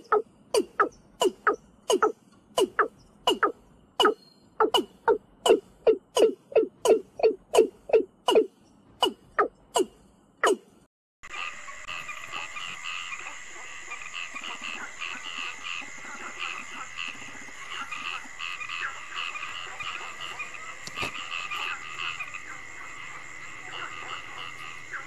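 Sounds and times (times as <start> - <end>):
frogs croaking: 0.0 - 9.9, 11.2 - 25.0.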